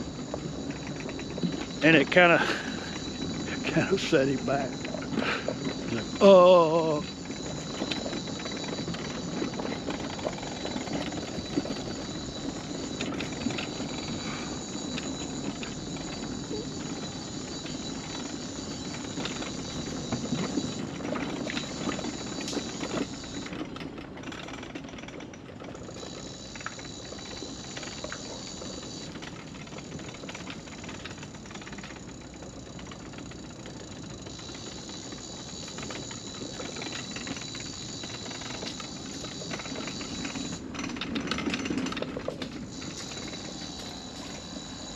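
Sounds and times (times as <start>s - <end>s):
clicks and knocks from riding: 0.0s - 44.9s
mobility scooter motor humming: 0.0s - 44.9s.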